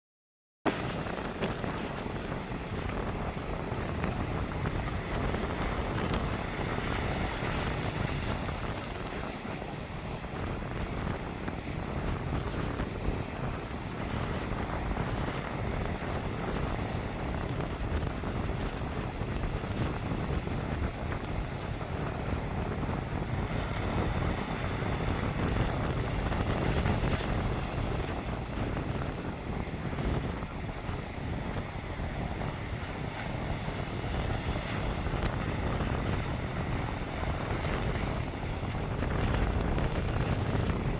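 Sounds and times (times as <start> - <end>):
sea waves washing ashore: 0.7 - 40.9
wind buffeting microphone: 0.7 - 40.9.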